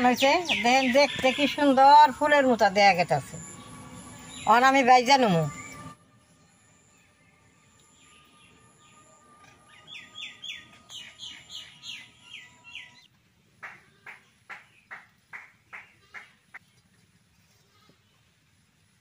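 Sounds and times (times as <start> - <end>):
birds chirping: 0.0 - 13.1, 13.8 - 16.9.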